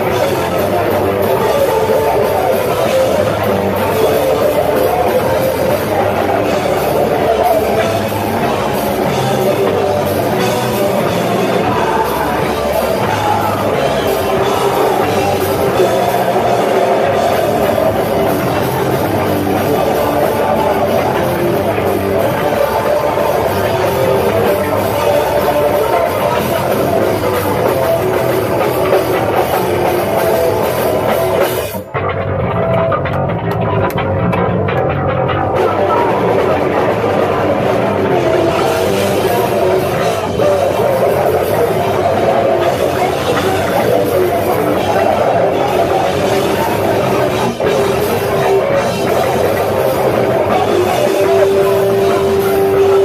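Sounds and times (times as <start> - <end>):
distorted guitar: 0.0 - 53.0.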